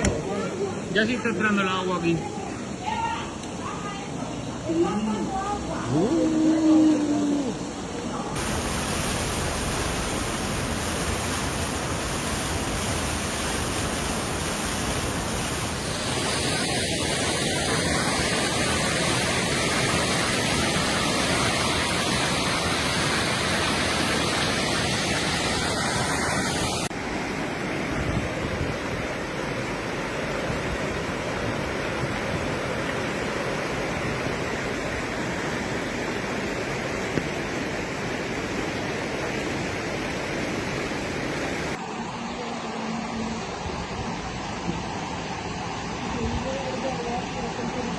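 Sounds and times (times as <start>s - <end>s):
floodwater roaring: 0.0s - 47.9s.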